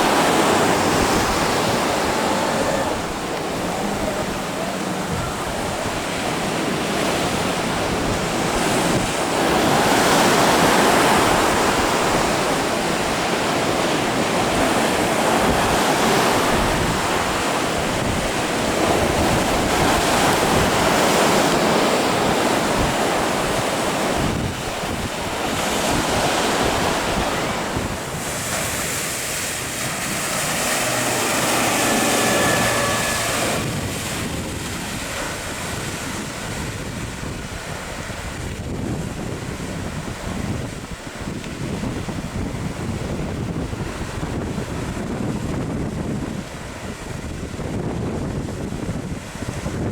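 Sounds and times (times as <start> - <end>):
waves crashing: 0.0 - 49.9
wind buffeting microphone: 0.0 - 49.9.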